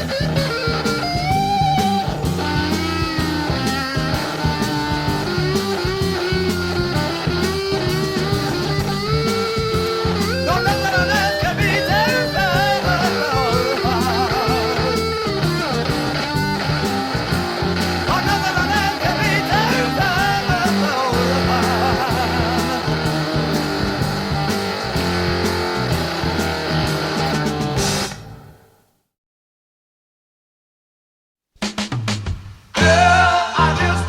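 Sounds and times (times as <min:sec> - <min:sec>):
bass and drums: 0:00.0 - 0:28.6, 0:31.6 - 0:34.0
electric guitar lead: 0:00.0 - 0:28.7.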